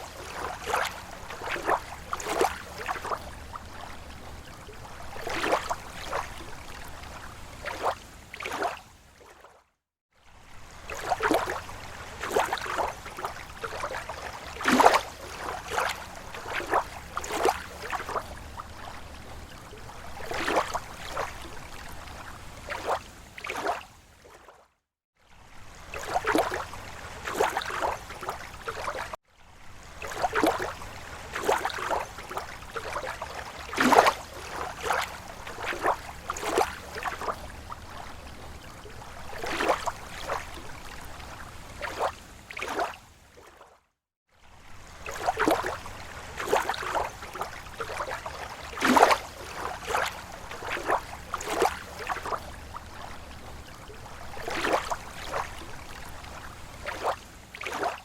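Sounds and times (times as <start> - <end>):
small waves lapping at shore: 0.0 - 58.0.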